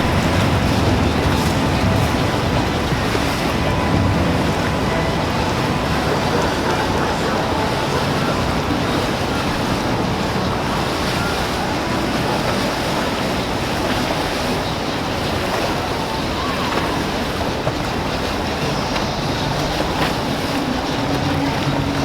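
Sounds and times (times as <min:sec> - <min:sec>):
waves and churning water: 0:00.0 - 0:22.0
wind buffeting microphone: 0:00.0 - 0:22.0.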